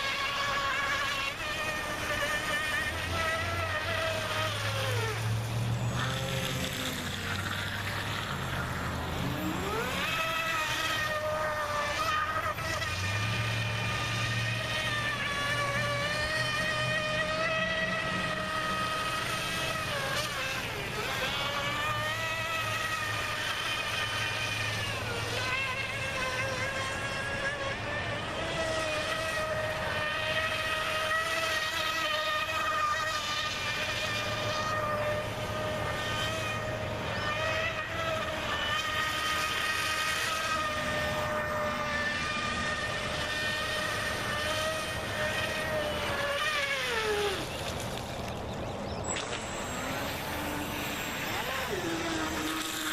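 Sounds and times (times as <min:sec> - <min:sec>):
electric motor high whine: 0:00.0 - 0:52.9.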